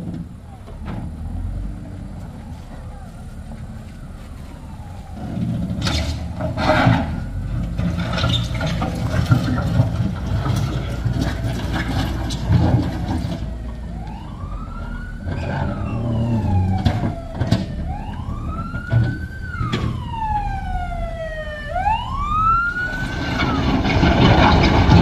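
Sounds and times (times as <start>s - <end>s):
diesel engine running: 0.0s - 25.0s
siren wailing: 0.5s - 8.5s, 11.2s - 25.0s.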